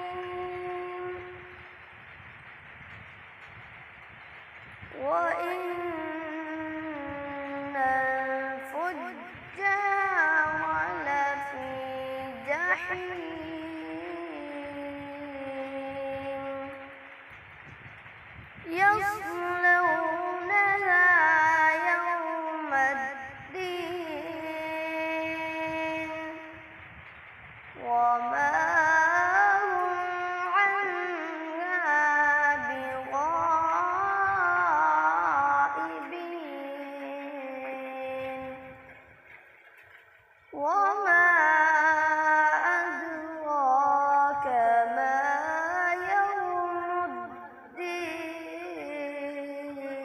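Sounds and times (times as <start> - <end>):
boy reciting melodically: 0.0 - 1.9, 4.8 - 17.3, 18.6 - 26.9, 27.7 - 50.0.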